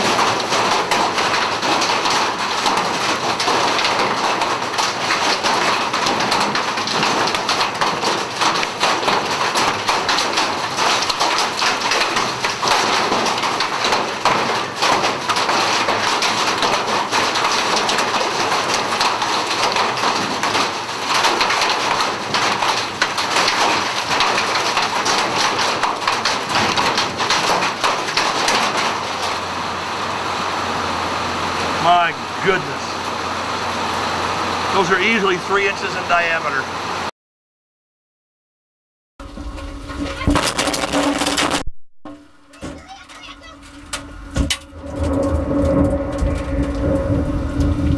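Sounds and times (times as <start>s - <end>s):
hailstones clattering: 0.0s - 36.7s, 39.3s - 41.6s, 42.4s - 47.9s
heavy rain hissing: 0.0s - 37.1s, 42.8s - 47.9s.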